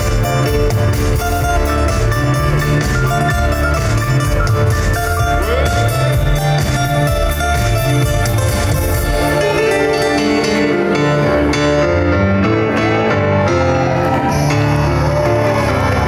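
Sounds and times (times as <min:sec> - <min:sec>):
acoustic guitar: 0:00.0 - 0:13.1
drums: 0:00.0 - 0:13.1
bass line: 0:00.0 - 0:16.0
keyboard chords: 0:00.0 - 0:16.0.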